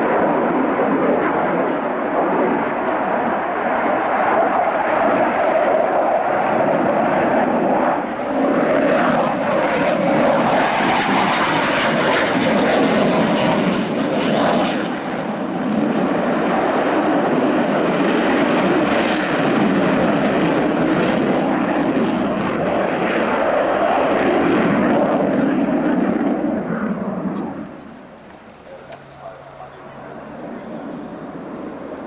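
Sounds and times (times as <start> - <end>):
aircraft engine: 0.0 - 32.0.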